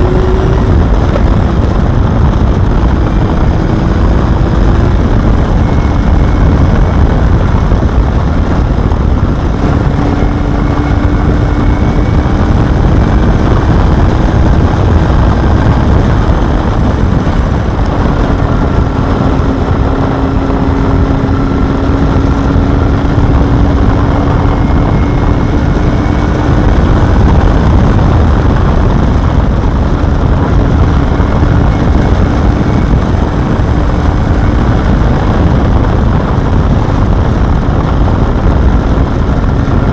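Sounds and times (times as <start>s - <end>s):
loud even rush of noise: 0.0s - 39.9s
motorcycle engine running: 0.0s - 39.9s.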